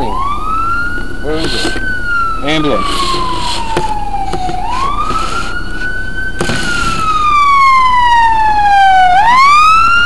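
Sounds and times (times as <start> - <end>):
ambulance siren wailing: 0.0 - 10.0.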